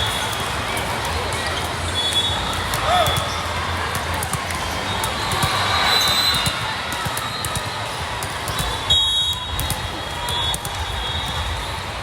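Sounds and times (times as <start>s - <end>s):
crowd chatter: 0.0s - 12.0s
volleyball hits: 0.0s - 12.0s.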